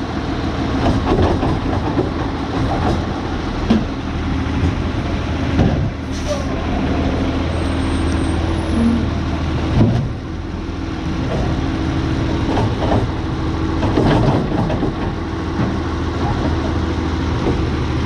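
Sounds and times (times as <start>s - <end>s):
garbage truck running: 0.0s - 18.0s.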